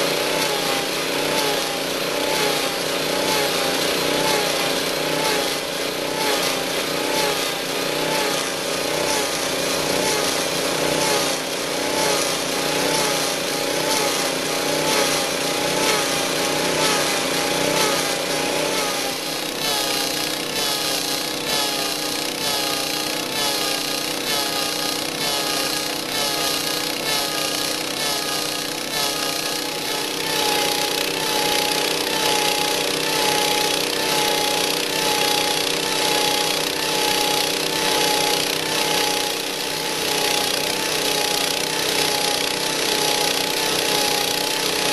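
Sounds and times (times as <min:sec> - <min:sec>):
cutter rasping wood: 0:00.0 - 0:44.9
small engine running: 0:00.0 - 0:44.9.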